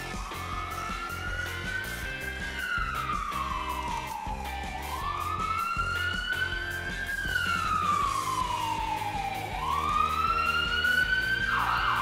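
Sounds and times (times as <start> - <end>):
background music with low beat: 0.0 - 12.0
siren wailing: 0.0 - 12.0.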